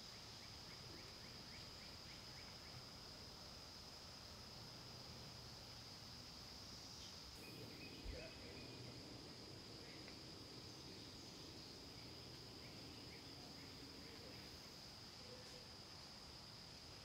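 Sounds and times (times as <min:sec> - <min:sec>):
cicada chorus drone: 0:00.0 - 0:17.0.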